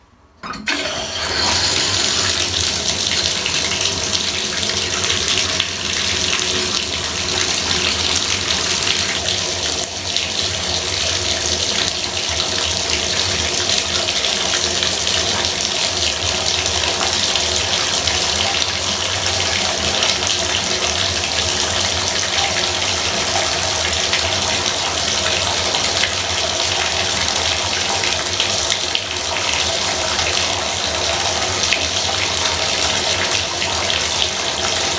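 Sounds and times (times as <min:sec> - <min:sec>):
water pouring into bathtub: 0:00.7 - 0:34.9.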